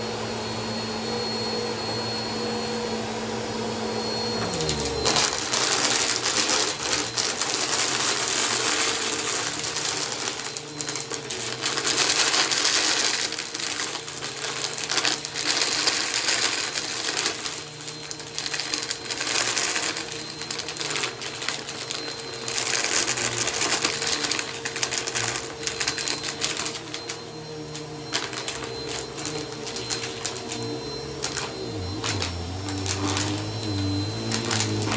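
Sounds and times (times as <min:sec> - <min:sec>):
vacuum cleaner motor hum: 0:00.0 - 0:34.9
debris rattling through vacuum: 0:04.1 - 0:34.9.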